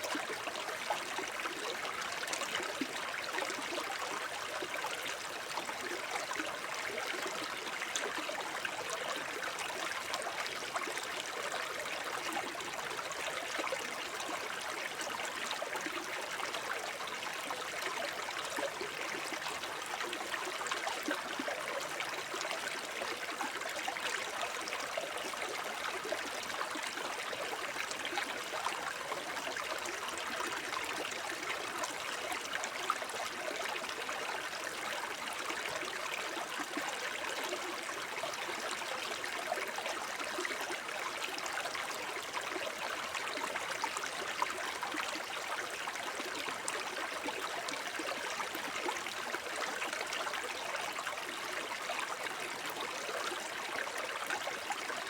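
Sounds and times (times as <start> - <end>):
brook babbling over stones: 0.0 - 55.0.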